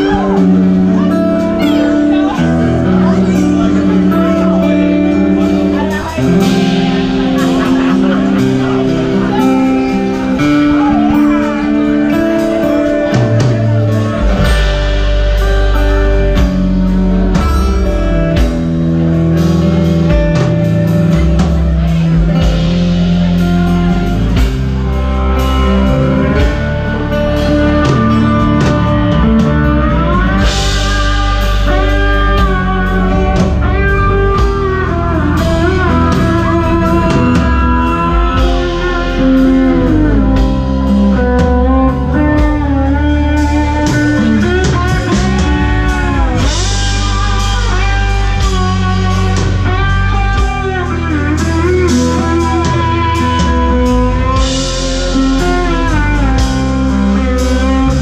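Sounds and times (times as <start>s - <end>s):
bass and drums backing: 0.0s - 58.0s
blues-rock lead guitar: 0.0s - 58.0s.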